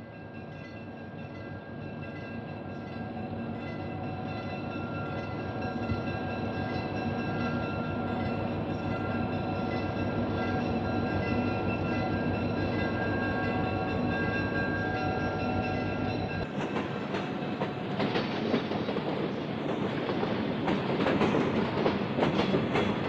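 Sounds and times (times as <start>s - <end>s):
diesel locomotive engines rumbling: 0.0s - 23.0s.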